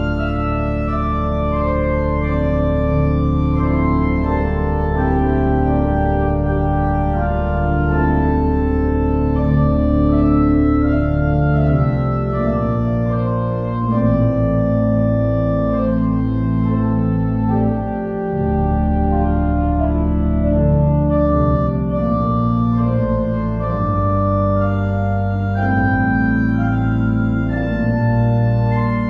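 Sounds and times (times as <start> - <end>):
church organ chords: 0.0 - 29.0.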